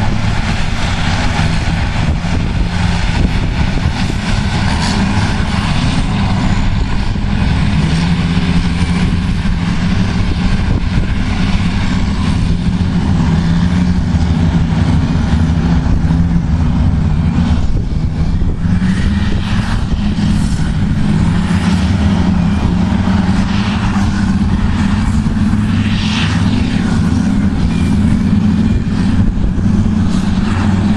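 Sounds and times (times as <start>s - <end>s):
heavy diesel engines droning: 0.0s - 30.9s.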